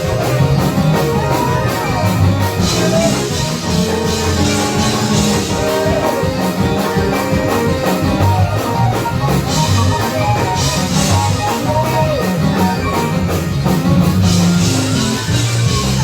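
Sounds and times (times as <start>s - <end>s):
gospel band playing up-tempo groove: 0.0s - 16.0s.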